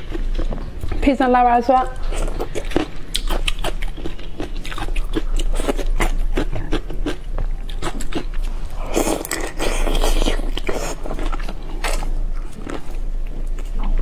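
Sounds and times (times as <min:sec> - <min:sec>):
wet chewing and lip smacks: 0:01.9 - 0:14.0.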